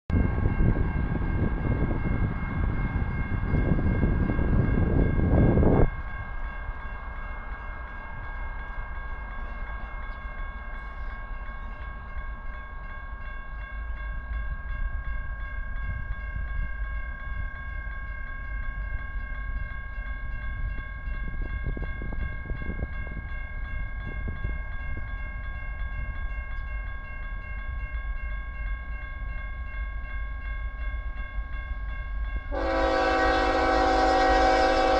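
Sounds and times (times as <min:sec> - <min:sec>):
crossing warning bell ringing: 0:00.1 - 0:34.9.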